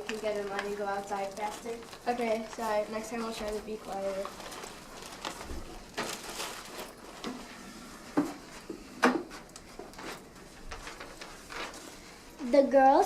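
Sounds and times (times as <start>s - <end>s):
objects being handled: 0.0s - 12.4s.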